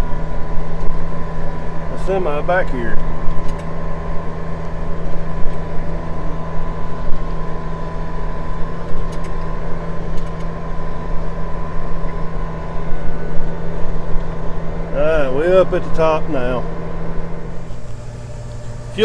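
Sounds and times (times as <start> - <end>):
thin steady whine: 0.0 - 19.0
tractor engine running: 0.0 - 19.0.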